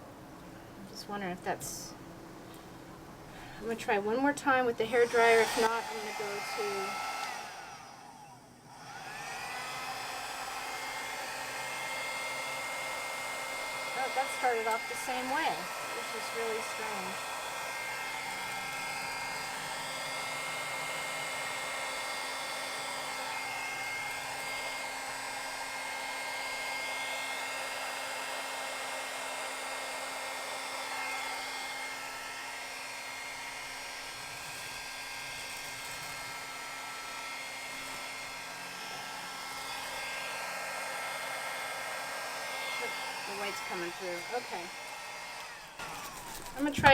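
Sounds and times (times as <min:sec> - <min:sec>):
hair dryer blowing: 0:03.3 - 0:46.9.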